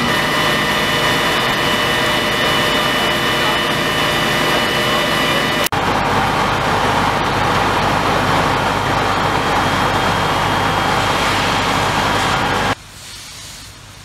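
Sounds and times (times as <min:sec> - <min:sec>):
fire engine pumping water: 0:00.0 - 0:14.0.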